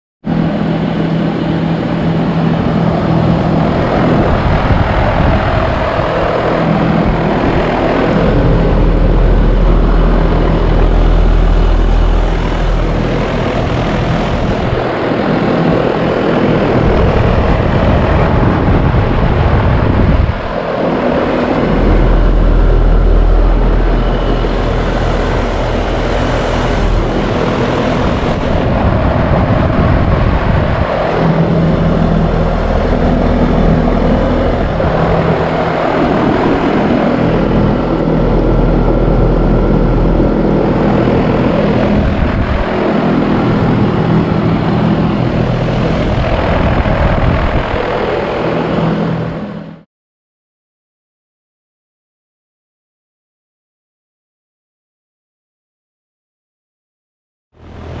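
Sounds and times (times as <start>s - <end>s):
compressor hum: 0.3s - 49.6s
condenser fan rushing: 0.3s - 49.8s, 57.6s - 58.0s.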